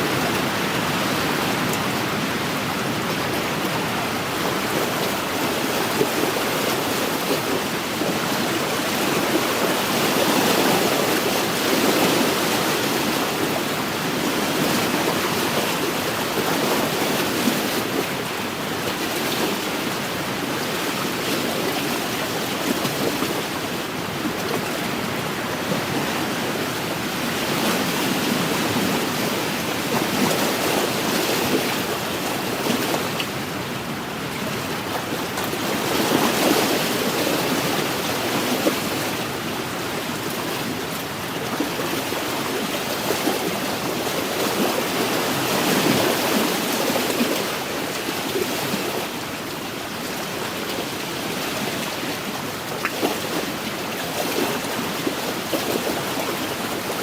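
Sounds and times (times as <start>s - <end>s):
waves lapping on shore: 0.0s - 57.0s
wind: 0.0s - 57.0s.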